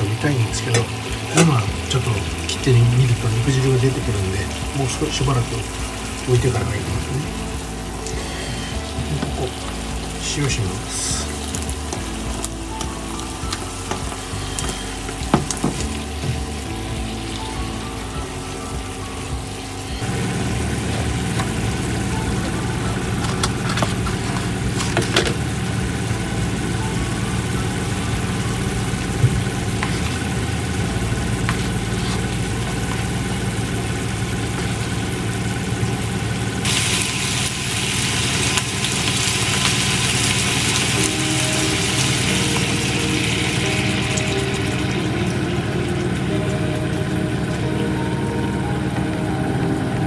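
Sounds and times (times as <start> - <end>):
low hum: 0.0 - 50.0
sauce simmering in a frying pan: 0.0 - 50.0.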